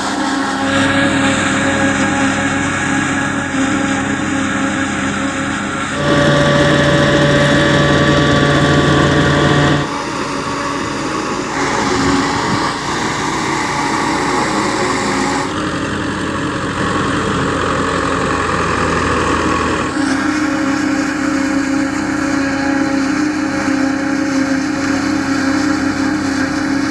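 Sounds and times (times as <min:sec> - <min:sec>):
harvester engine running: 0:00.0 - 0:26.9.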